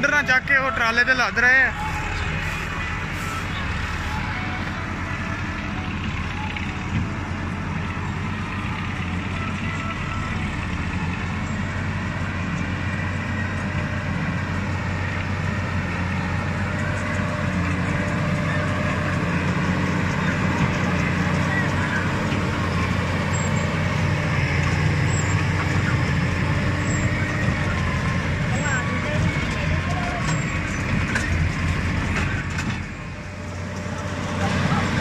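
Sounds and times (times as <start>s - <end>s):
tractor diesel engine under load: 0.0s - 35.0s.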